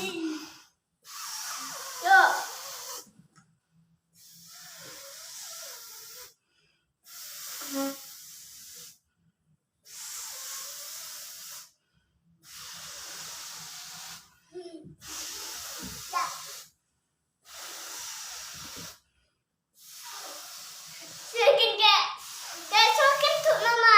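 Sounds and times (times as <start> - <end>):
air hissing into balloon: 0.0 - 3.2, 4.2 - 6.4, 7.0 - 9.0, 9.8 - 16.8, 17.4 - 23.9.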